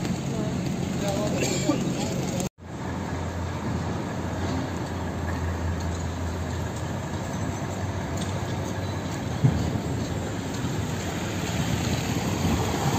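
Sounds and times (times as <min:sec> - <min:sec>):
city street noise: 0:00.0 - 0:12.9.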